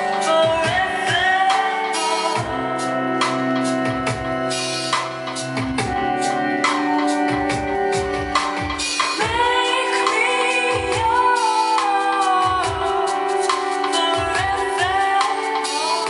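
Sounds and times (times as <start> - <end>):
pop music over speakers: 0.0 - 16.0.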